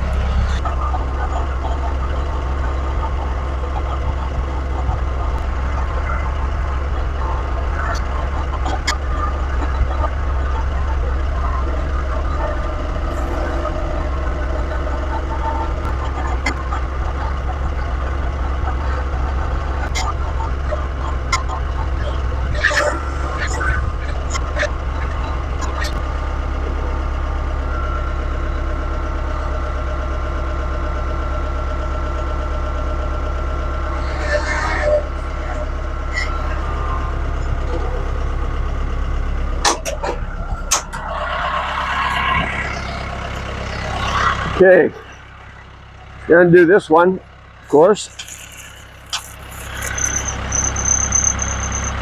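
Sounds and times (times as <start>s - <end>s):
thin high engine whine: 0.0s - 52.0s
tractor diesel engine running: 0.0s - 52.0s.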